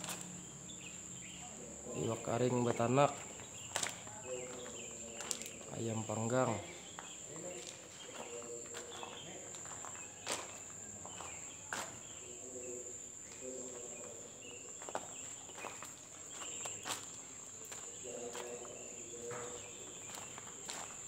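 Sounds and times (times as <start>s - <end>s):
distant voices murmuring: 0.0s - 21.0s
insects trilling: 0.0s - 21.0s.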